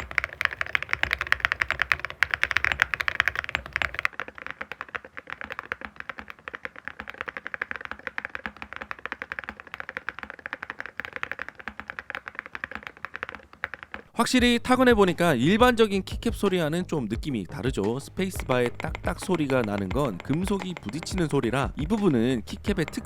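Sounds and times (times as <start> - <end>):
fast mechanical keyboard typing: 0.0 - 23.0.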